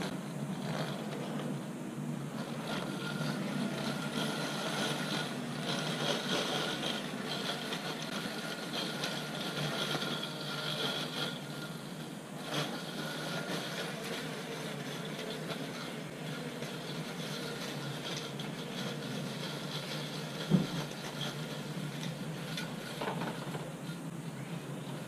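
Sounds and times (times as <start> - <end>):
outdoor noise: 0.0 - 25.0
robotic lawn mower motor whine: 0.0 - 25.0.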